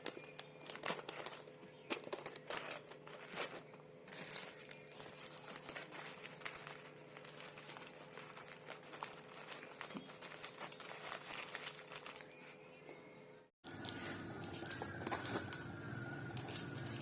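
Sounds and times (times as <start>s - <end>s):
crinkly plastic packaging rustling: 0.0s - 12.8s, 13.7s - 17.0s.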